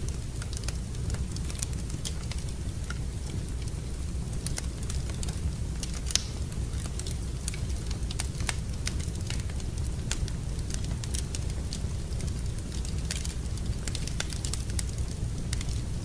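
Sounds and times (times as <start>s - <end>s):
fire rumbling: 0.0s - 16.0s
fireplace fire crackling: 0.0s - 16.0s.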